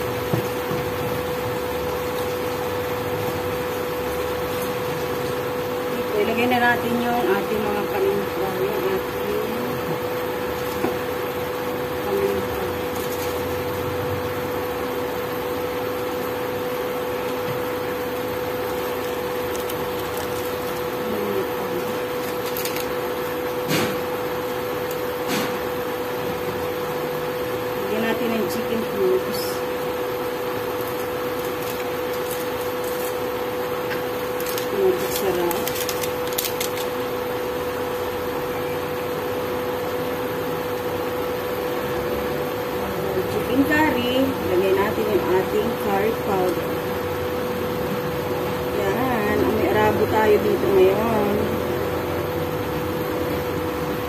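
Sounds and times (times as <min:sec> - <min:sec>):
induction cooktop humming: 0:00.0 - 0:54.0.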